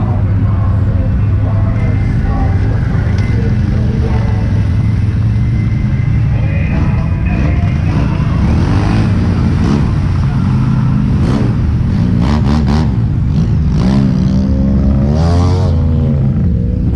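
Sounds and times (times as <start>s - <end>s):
atv engines revving: 0.0s - 16.9s.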